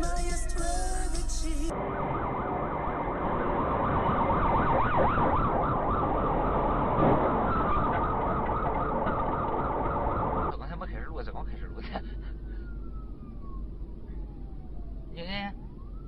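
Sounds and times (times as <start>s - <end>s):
emergency vehicle sirens wailing: 0.0s - 16.0s
traffic noise: 0.0s - 16.0s.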